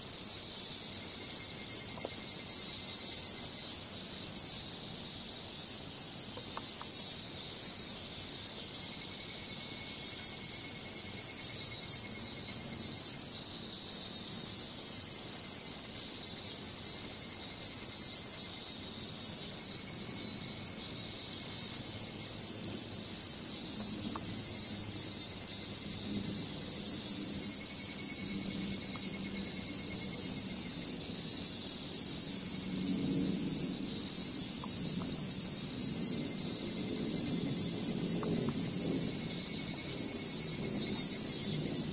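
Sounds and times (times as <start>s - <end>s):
cicadas chorus: 0.0s - 41.9s.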